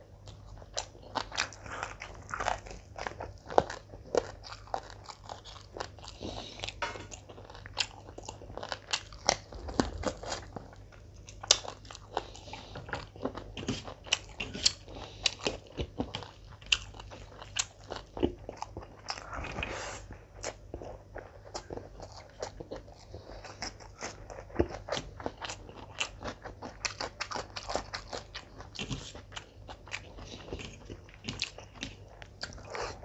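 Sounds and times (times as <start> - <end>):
wet chewing and mouth sounds: 0.0 - 33.0.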